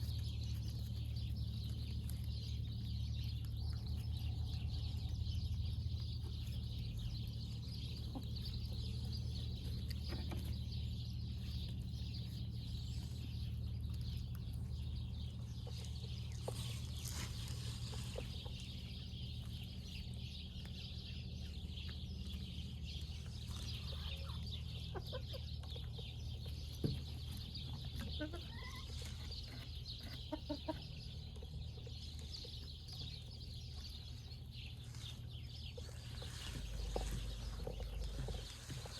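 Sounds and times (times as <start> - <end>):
steady low hum: 0.0 - 28.0, 29.0 - 38.9
chickens clucking: 0.0 - 38.9.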